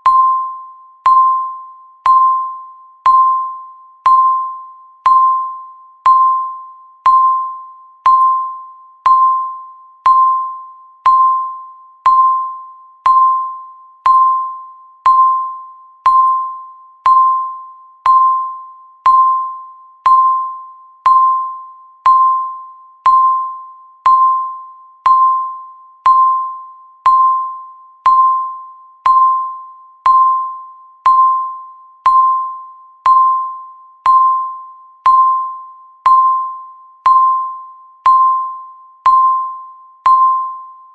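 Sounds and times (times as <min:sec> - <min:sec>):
timer beeps: 0:00.0 - 0:40.9.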